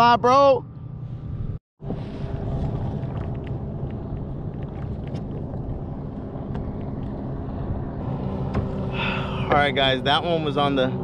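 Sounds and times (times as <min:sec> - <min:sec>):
motorboat engine drone: 0:00.7 - 0:11.0.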